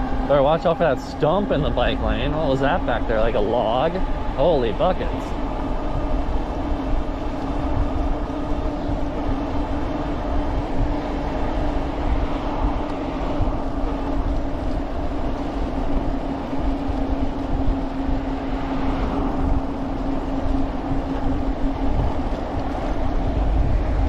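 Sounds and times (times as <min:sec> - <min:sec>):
electric bike hum: 0:00.0 - 0:24.0
wind rushing over microphone: 0:00.0 - 0:24.0.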